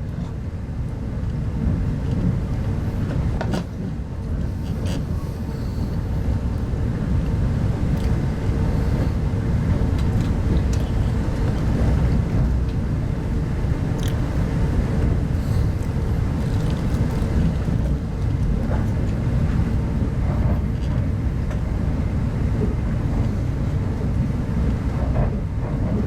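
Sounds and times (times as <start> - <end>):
train carriage rumbling: 0.0 - 26.0.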